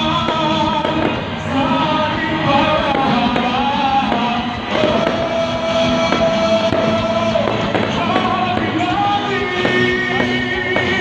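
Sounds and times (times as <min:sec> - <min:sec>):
fireworks bursting: 0:00.0 - 0:11.0
music with singing voice: 0:00.0 - 0:11.0.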